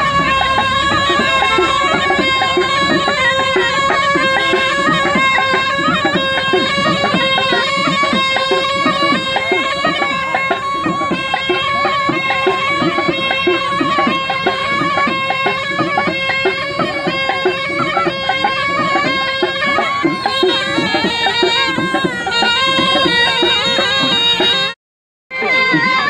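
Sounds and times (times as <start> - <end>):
reedy gourd pipes tune: 0.0 - 26.0.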